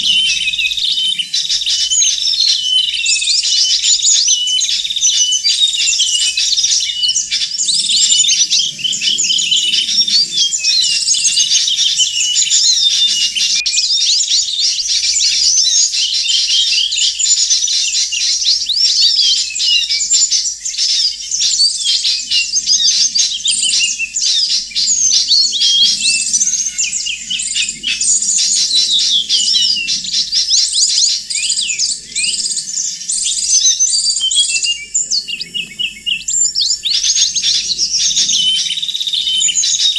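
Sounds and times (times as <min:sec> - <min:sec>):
songbirds twittering and chirping: 0:00.0 - 0:39.9.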